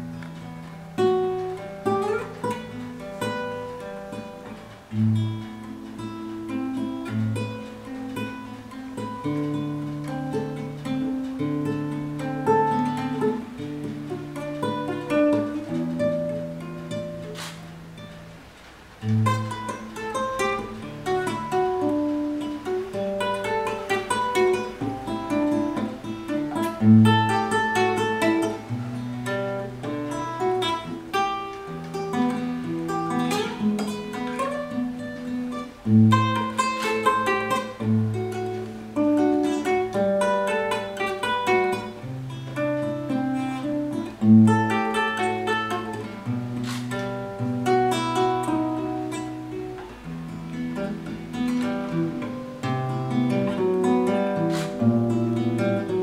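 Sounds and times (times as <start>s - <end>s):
classical guitar fingerstyle: 0.0s - 56.0s.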